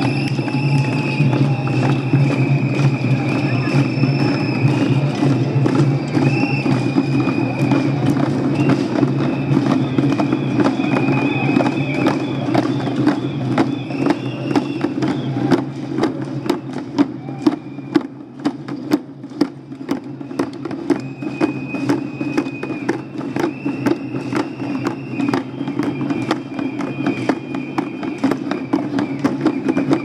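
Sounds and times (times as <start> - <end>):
hand drums beaten: 0.0 - 30.0.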